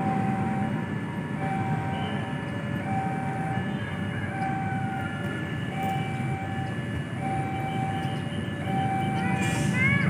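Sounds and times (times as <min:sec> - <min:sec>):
repeating steady tones: 0:00.0 - 0:10.0
train rumbling on tracks: 0:00.0 - 0:10.0.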